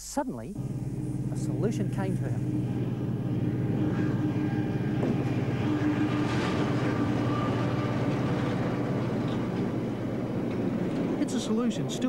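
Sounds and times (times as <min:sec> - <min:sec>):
diesel locomotive engine droning: 0:00.5 - 0:12.0.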